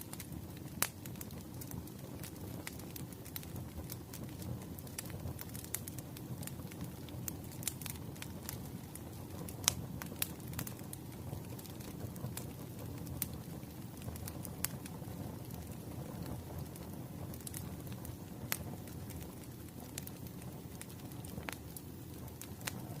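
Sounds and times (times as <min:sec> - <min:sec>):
fire rumble: 0:00.0 - 0:23.0
logs crackling and popping: 0:00.0 - 0:23.0.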